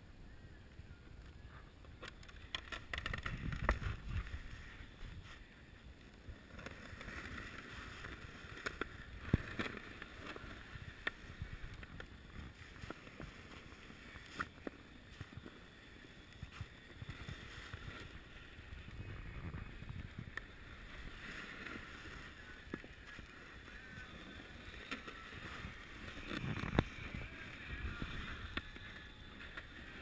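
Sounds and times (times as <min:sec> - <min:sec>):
small clicks and crackles: 0:00.5 - 0:30.0
snow crunching and scraping: 0:02.8 - 0:30.0.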